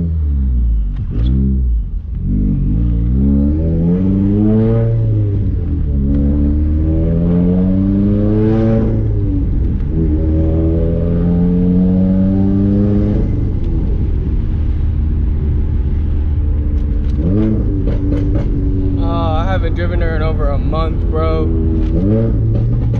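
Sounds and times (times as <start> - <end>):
car engine revving through gears: 0.0 - 22.9.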